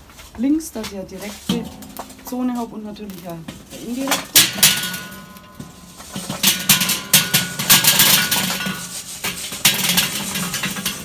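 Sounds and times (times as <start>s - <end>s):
charcoal clattering into metal basket: 0.3s - 11.0s
metal chimney knocking: 1.4s - 11.0s.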